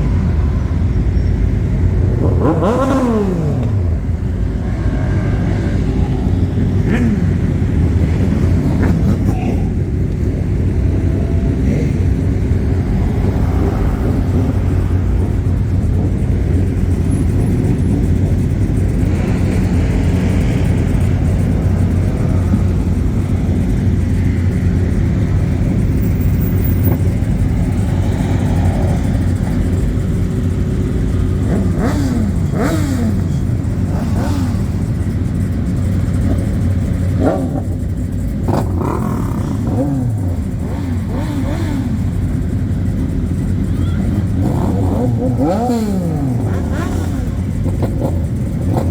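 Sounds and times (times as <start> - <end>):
car engine running: 3.6 - 48.9.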